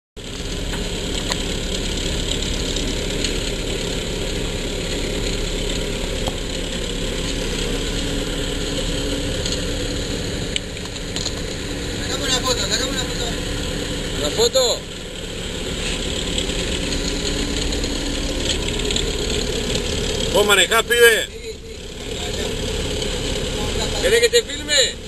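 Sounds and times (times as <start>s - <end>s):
vehicle engine running: 0.2s - 25.0s.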